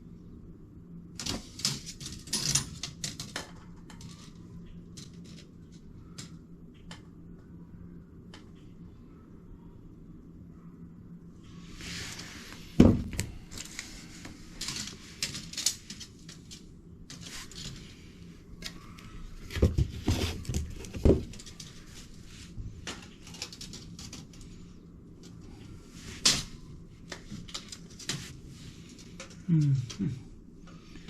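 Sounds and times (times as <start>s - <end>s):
rustling and small rattles: 1.2s - 7.2s, 11.8s - 31.0s.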